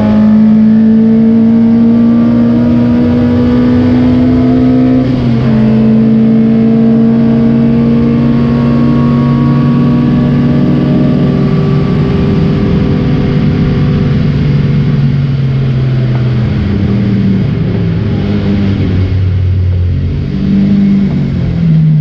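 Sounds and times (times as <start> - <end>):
racing car engine: 0.0 - 22.0.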